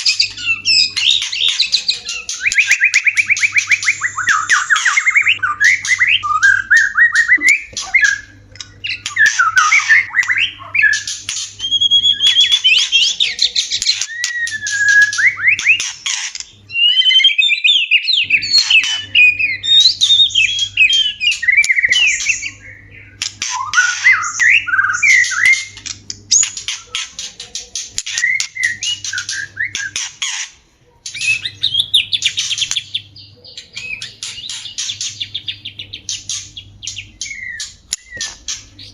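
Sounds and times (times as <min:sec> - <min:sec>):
birds whistling calls: 0:00.0 - 0:38.9
harsh rasping bird chatter: 0:00.0 - 0:38.9.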